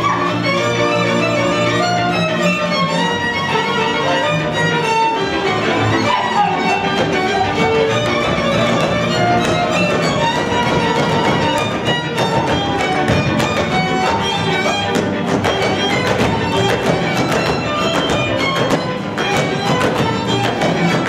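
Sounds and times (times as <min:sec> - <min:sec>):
dancers' steps on stage: 0:00.0 - 0:21.0
double bass accompaniment: 0:00.0 - 0:21.0
violin leading dance tune: 0:00.0 - 0:21.0.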